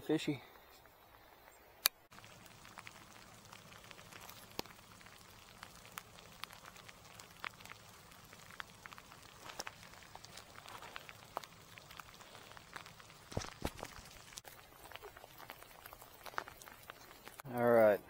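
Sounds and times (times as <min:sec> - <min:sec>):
faint rain hiss: 0:00.0 - 0:18.0
raindrops ticking: 0:00.4 - 0:17.7.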